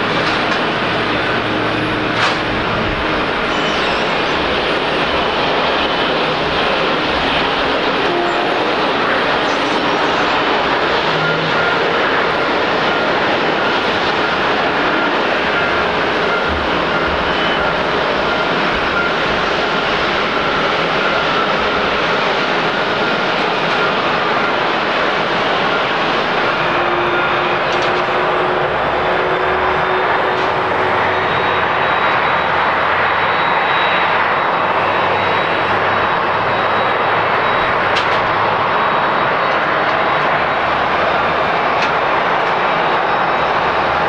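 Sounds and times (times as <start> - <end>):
jet engines rushing: 0.0 - 44.0.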